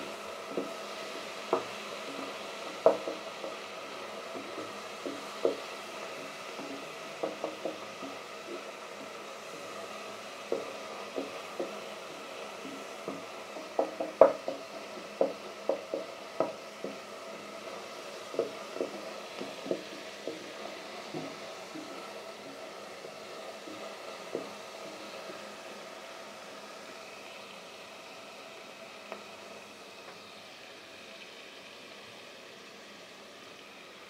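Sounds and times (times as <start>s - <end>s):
onions sizzling in oil: 0.0s - 34.0s.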